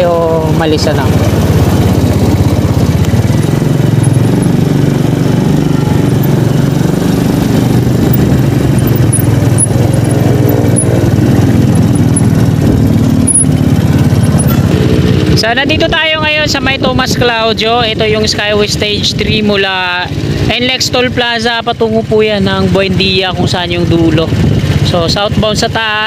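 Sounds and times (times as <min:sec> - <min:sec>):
motorcycle engine humming: 0:00.0 - 0:26.0.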